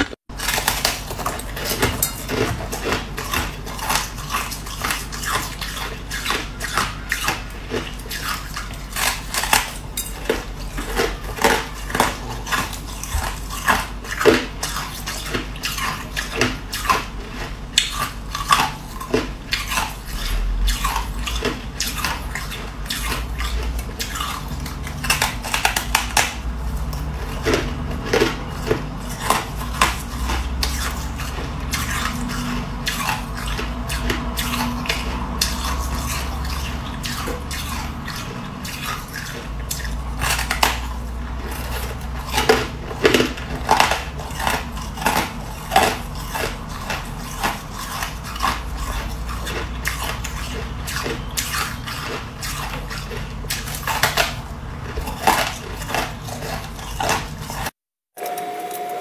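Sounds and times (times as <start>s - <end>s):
frost being bitten and chewed: 0.0s - 58.6s.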